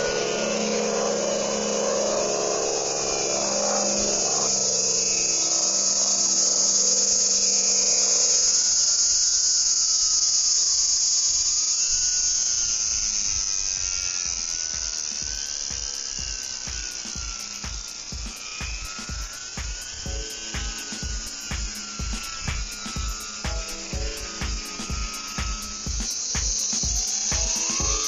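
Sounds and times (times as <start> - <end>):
model plane motor whine: 0.0 - 28.0.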